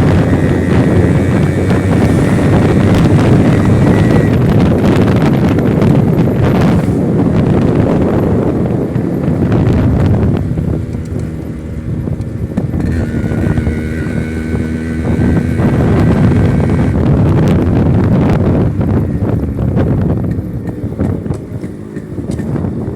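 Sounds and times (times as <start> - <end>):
motorcycle engine running: 0.0 - 22.9
wind noise on microphone: 0.0 - 22.9.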